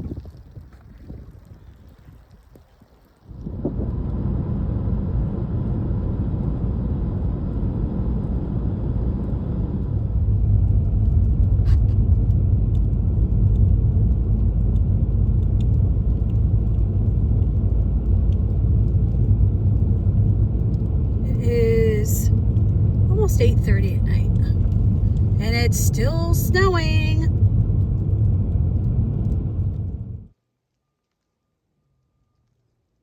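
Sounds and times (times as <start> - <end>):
vehicle engine rumble: 0.0 - 30.3
road noise: 3.4 - 30.3.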